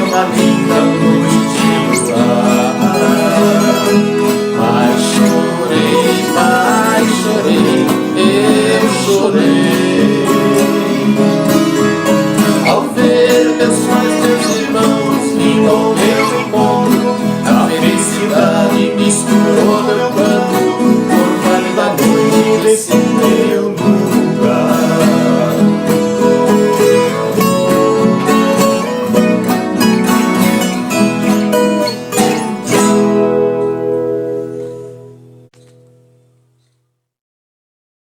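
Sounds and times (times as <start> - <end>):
acoustic country song: 0.0 - 36.8
plucked acoustic guitar: 0.0 - 36.8.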